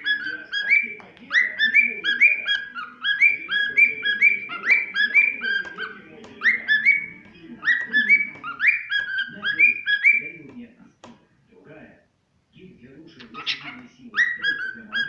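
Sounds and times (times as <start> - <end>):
cockatiel whistling: 0.0 - 10.4, 13.2 - 15.0.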